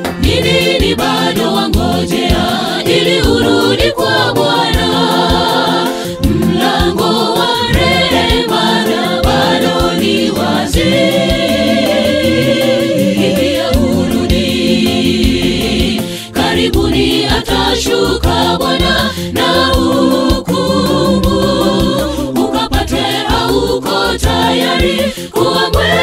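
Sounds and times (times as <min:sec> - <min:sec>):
backing music with drum beat: 0:00.0 - 0:26.0
gospel choir singing: 0:00.0 - 0:26.0.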